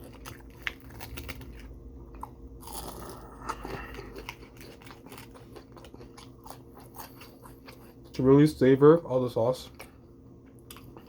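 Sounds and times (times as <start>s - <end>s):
person chewing crunchy food: 0.0s - 8.4s, 9.6s - 11.0s.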